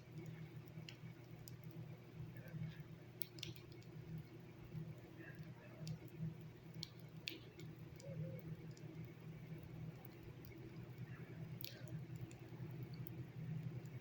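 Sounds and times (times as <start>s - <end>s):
faint clicks and ticks: 0.0s - 14.0s.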